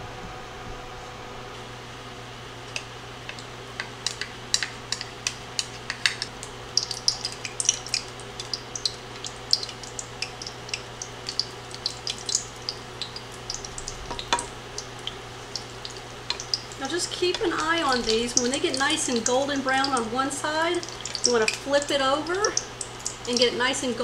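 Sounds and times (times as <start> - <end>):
batter deep-frying in oil: 2.5 - 24.0.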